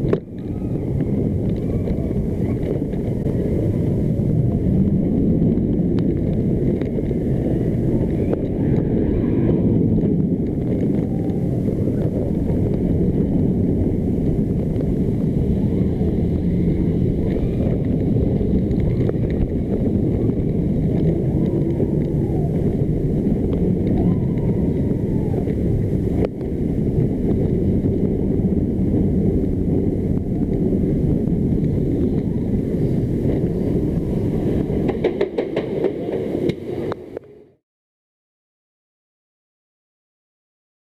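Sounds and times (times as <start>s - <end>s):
roller coaster train rumbling on track: 0.0s - 37.5s
wind buffeting microphone: 0.0s - 37.6s.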